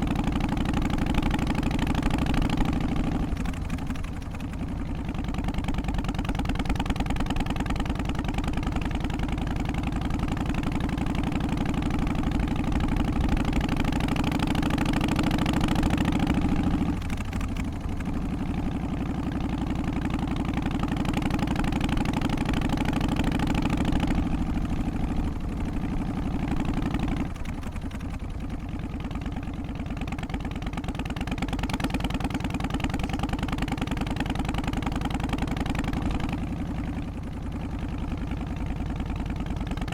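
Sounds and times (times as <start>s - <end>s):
motorcycle engine loping: 0.0s - 39.9s.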